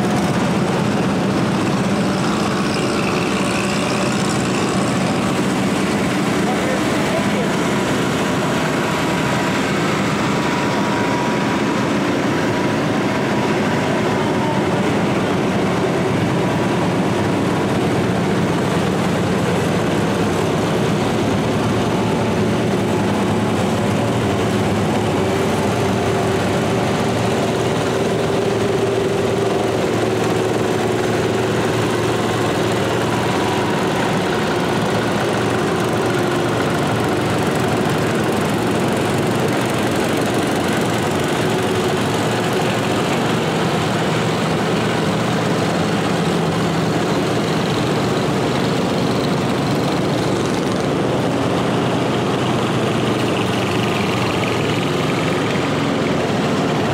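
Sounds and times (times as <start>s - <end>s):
small tractor engines running: 0.0s - 56.9s.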